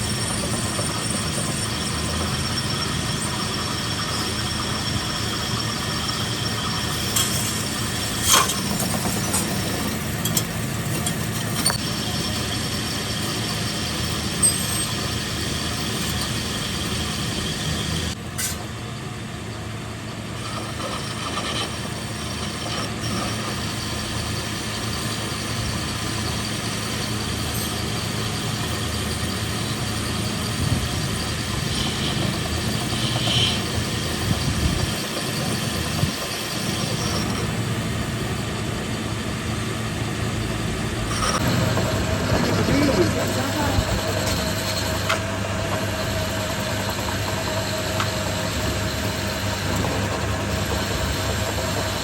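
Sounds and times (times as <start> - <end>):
mechanical running hum: 0.0 - 52.0.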